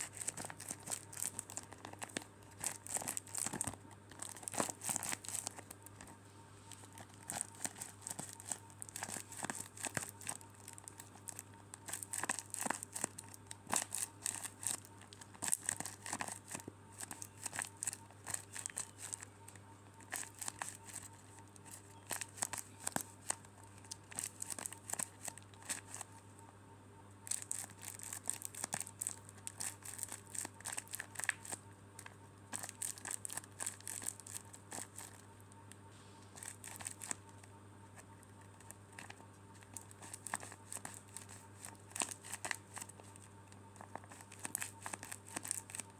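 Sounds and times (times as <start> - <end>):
squishies crinkling and crackling: 0.0 - 45.9
steady low hum: 0.0 - 45.9.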